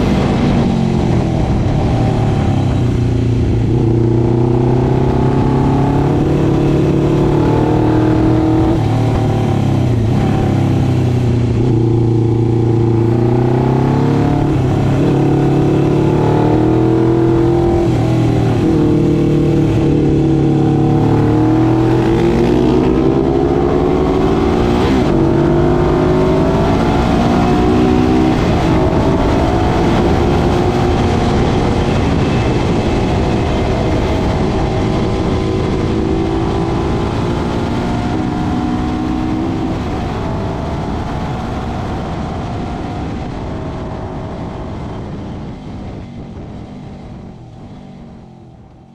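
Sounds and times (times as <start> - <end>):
two-stroke motorcycle engine racing: 0.0 - 48.9.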